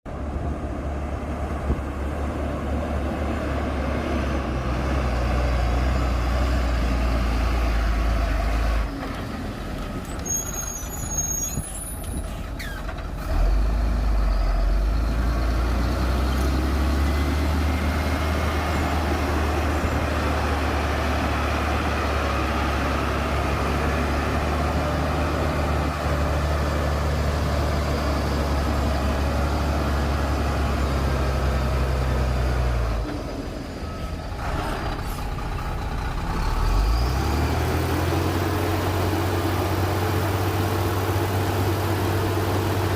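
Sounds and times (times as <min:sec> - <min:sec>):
heavy diesel machinery rumbling: 0:00.1 - 0:42.9.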